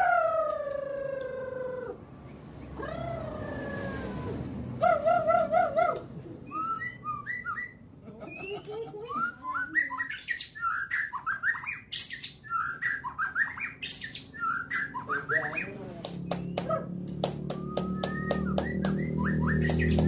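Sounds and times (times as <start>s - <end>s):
songbird singing chirps and whistles: 0.0s - 16.7s, 17.4s - 20.0s.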